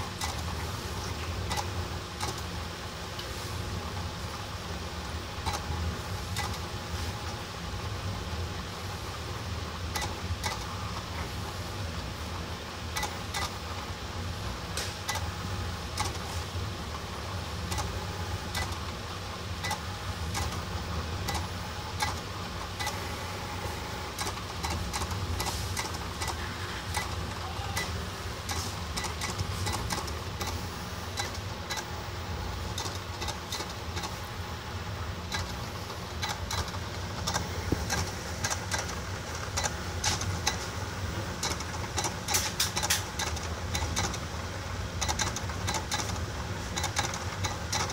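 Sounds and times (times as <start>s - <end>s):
motor hum: 0.0s - 47.9s.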